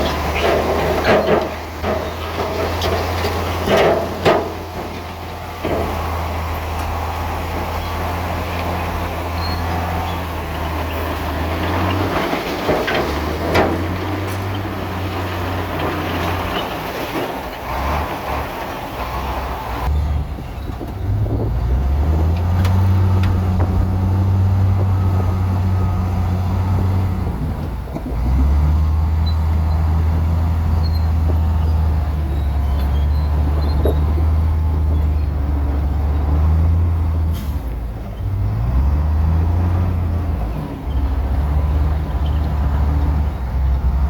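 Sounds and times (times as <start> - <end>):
bulldozer diesel engine revving: 0.0 - 44.0.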